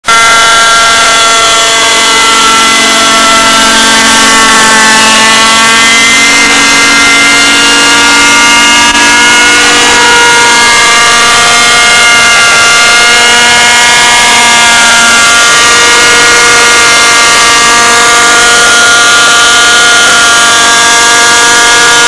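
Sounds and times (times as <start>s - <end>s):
model helicopter engine whine: 0.1s - 22.0s.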